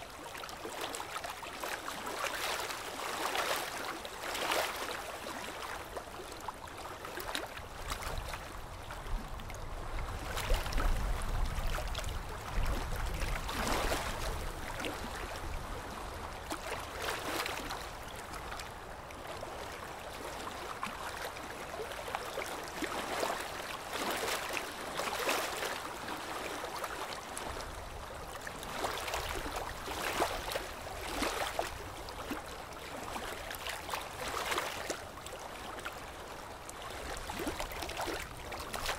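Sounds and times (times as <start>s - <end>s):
water sloshing and splashing: 0.1s - 38.9s.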